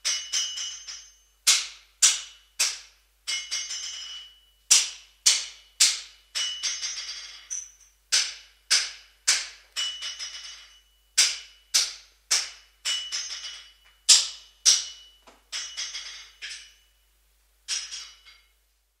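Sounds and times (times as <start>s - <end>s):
hammer striking metal: 0.0s - 16.9s, 17.7s - 18.5s.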